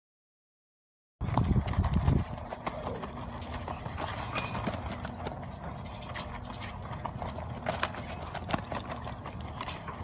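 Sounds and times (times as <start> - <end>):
trampoline springs rattling and clicking: 1.2 - 10.0.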